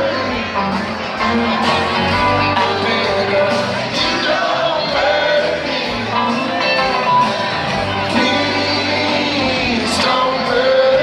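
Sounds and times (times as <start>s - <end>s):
live rock band: 0.0s - 11.0s
person singing: 0.0s - 11.0s.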